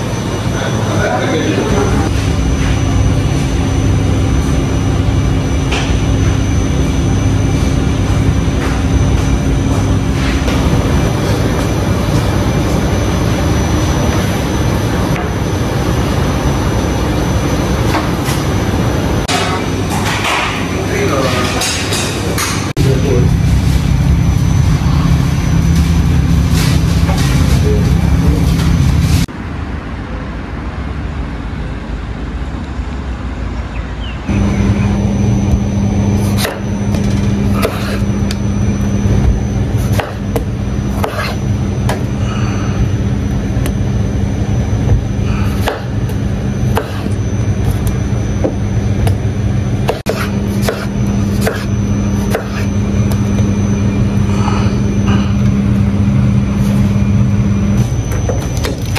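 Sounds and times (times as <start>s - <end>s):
low drone: 0.0s - 21.7s, 22.3s - 58.9s
mechanical hum: 0.0s - 58.9s.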